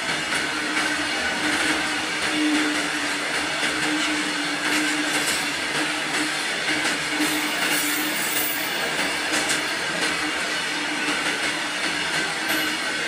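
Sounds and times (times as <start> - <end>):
freight wagons rumbling on rails: 0.0 - 13.0.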